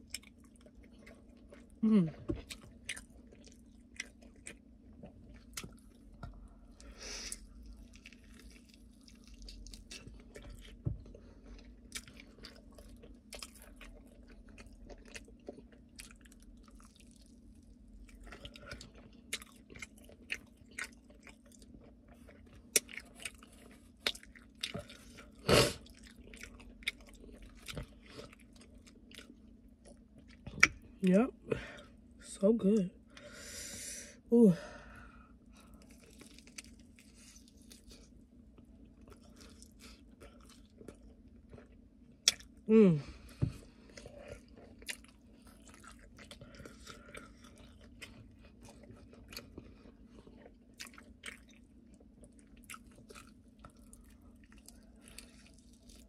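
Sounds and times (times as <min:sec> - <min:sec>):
chewing and wet mouth sounds: 0:00.0 - 0:33.2, 0:35.4 - 0:56.0.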